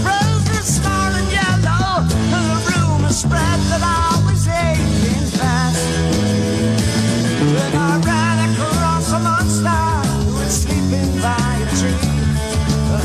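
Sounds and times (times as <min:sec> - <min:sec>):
person singing: 0:00.0 - 0:06.2, 0:07.3 - 0:13.0
rock band playing: 0:00.0 - 0:13.0.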